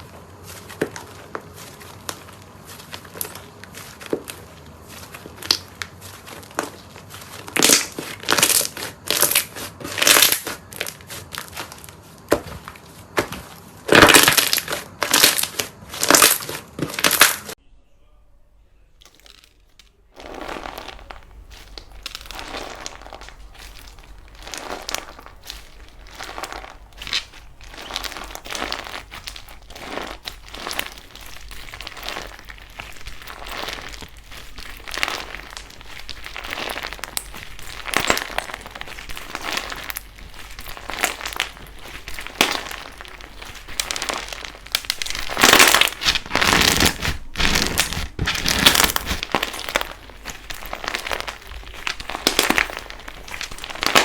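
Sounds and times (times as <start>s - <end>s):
slime crackling when squeezed: 0.3s - 11.9s, 13.9s - 17.5s, 19.0s - 54.0s.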